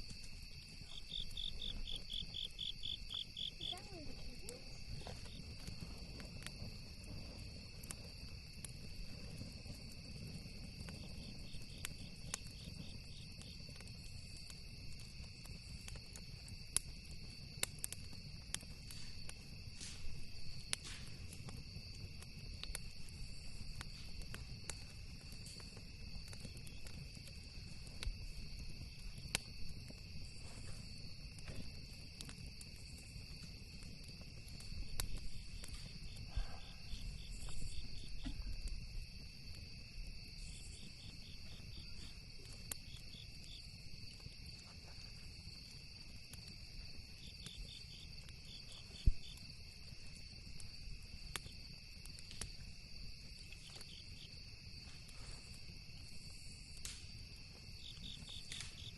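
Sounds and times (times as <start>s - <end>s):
campfire crackling and popping: 0.0s - 58.9s
insects trilling: 0.0s - 58.9s.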